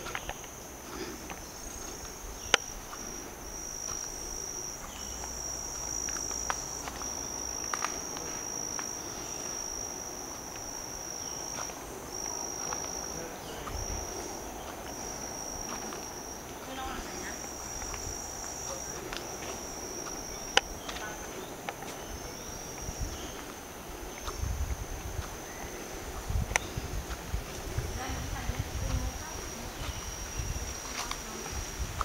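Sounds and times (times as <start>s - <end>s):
insects shrilling: 0.0s - 32.0s.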